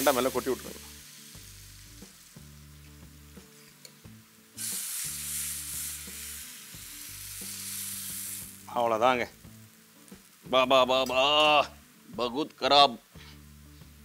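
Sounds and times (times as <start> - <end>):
seeds sizzling in hot oil: 0.0 - 14.0
soft background music: 0.0 - 14.0.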